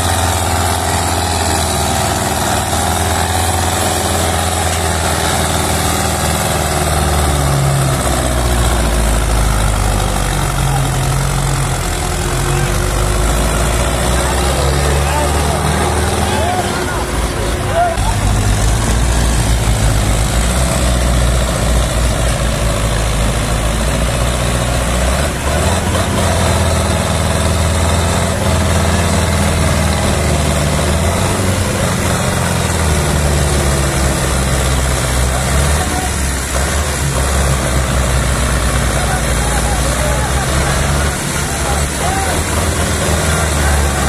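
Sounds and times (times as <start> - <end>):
tractor diesel engine straining: 0.0 - 44.0.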